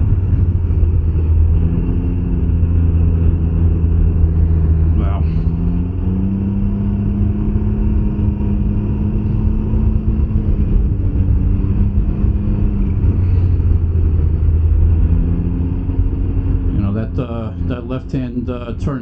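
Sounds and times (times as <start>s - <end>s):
motorcycle engine running: 0.0s - 19.0s
road and wind rumble: 0.0s - 19.0s.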